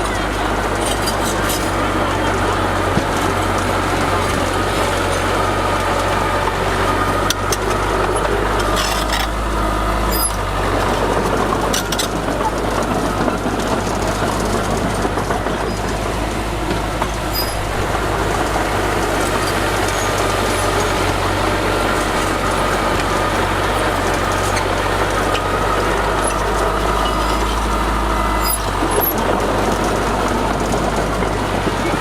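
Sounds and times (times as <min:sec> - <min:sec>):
diesel machinery engine running: 0:00.0 - 0:32.0.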